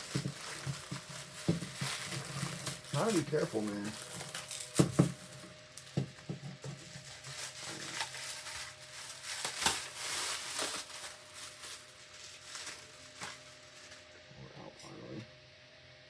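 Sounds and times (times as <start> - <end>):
rustling of wrap and cardboard: 0.0 - 14.2.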